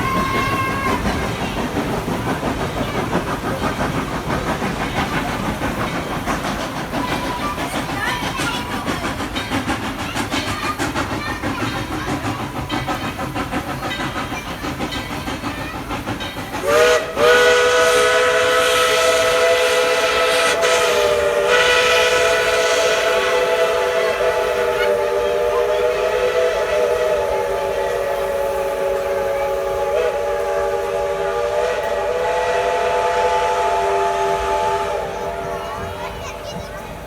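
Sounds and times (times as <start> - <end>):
rhythmic wheel clatter: 0.0 - 32.0
steam hissing: 0.0 - 37.0
steam locomotive running: 0.0 - 37.0.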